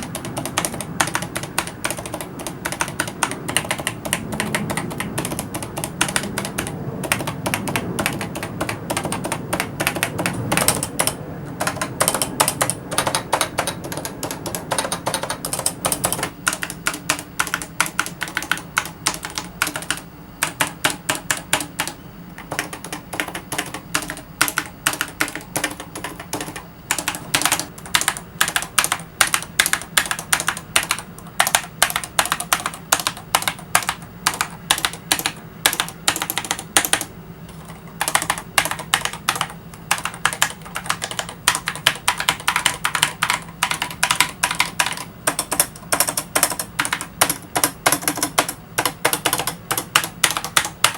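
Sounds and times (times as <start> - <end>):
fast typing on keyboard: 0.0 - 50.9.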